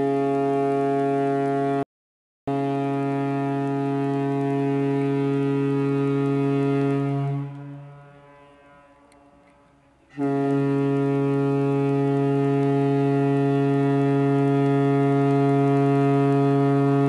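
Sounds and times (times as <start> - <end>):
ship horn blast: 0.0 - 1.8, 2.5 - 17.0.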